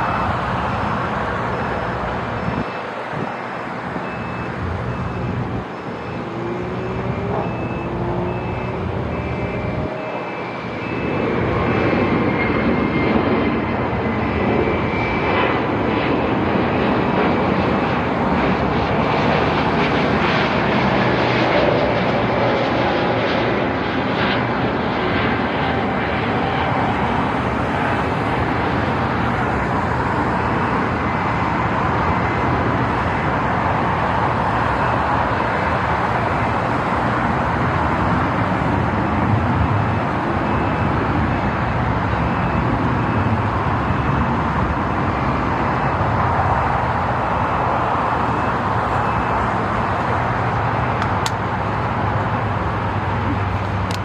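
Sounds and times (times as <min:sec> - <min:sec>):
jet engine roar: 0:00.0 - 0:54.0.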